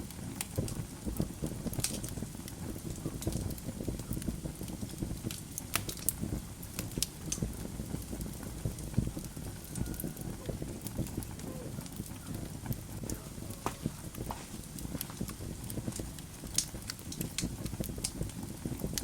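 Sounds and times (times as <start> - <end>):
log fire crackling and popping: 0.0 - 19.0.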